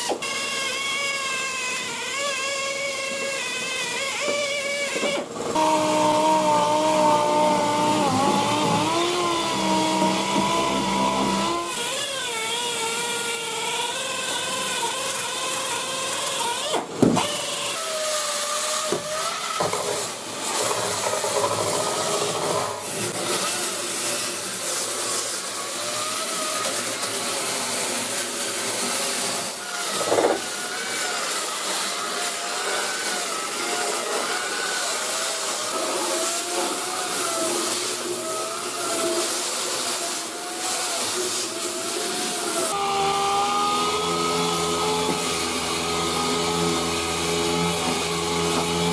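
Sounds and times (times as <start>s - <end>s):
rotary polisher motor whine: 0.0s - 16.8s, 17.4s - 48.9s.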